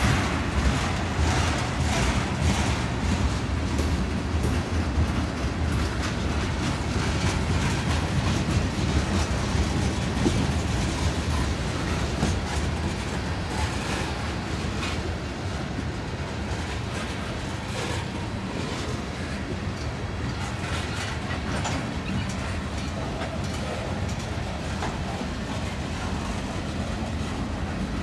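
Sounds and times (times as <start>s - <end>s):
rumble of train wheels on rail: 0.0s - 28.0s
wheels clicking and clanking: 0.0s - 28.0s.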